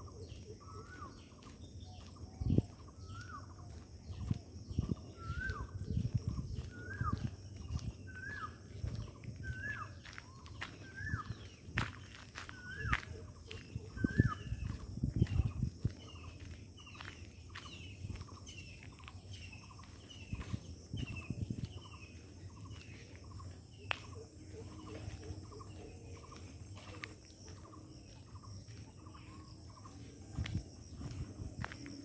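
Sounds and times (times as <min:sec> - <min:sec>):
bird chirping: 0:00.0 - 0:32.0
insects droning: 0:00.0 - 0:32.0.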